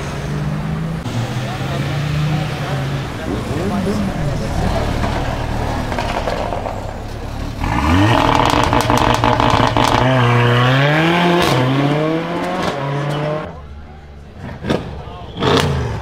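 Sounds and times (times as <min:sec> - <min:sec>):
car engine revving and accelerating: 0:00.0 - 0:13.6.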